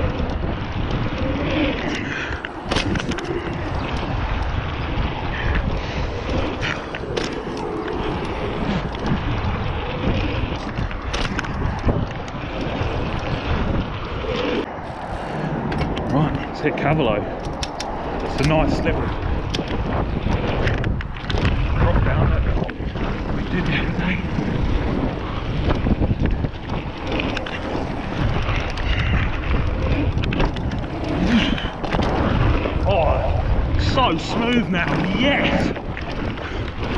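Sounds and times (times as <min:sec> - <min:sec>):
bike clicks and rattles: 0:00.0 - 0:36.9
bike tyres on packed dirt: 0:00.0 - 0:36.9
wind on microphone: 0:00.0 - 0:36.9.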